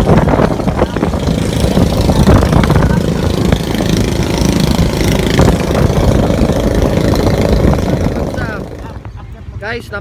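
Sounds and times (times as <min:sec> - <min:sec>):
boat engine low rumble: 0:00.0 - 0:10.0.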